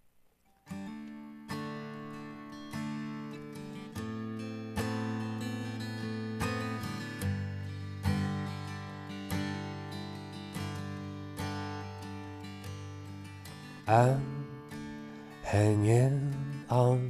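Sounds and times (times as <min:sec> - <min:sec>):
acoustic guitar chords ringing: 0:00.5 - 0:17.0.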